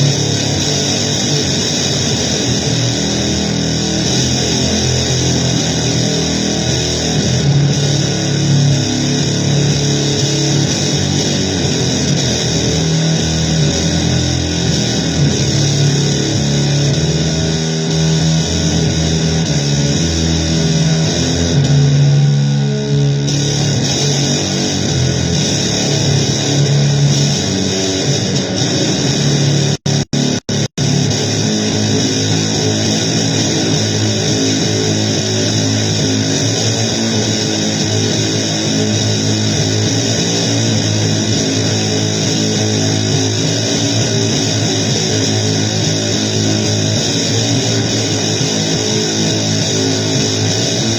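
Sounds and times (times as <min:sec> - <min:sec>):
distorted blues guitar noise music: 0:00.0 - 0:50.9.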